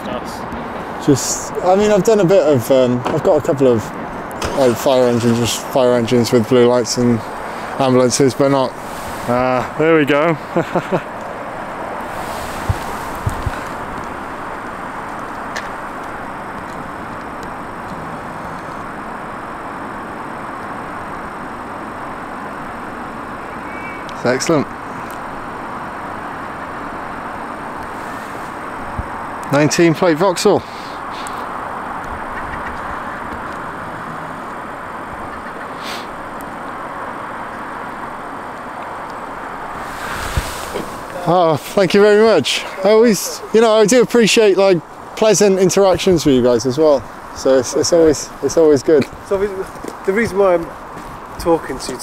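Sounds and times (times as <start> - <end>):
car running: 0.0 - 52.0
motor vehicle rumble: 0.0 - 52.0.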